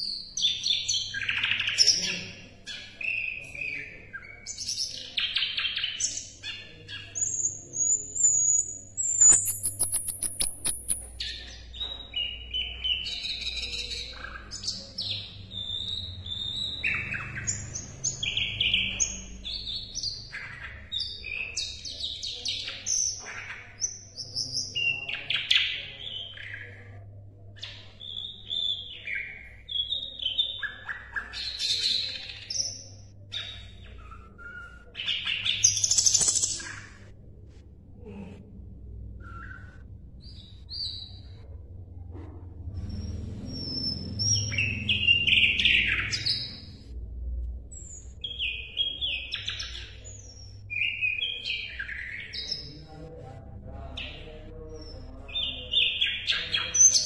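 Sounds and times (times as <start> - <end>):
bird singing chirps and trills: 0.0 - 37.1, 42.8 - 46.8, 47.8 - 53.1, 53.8 - 57.0.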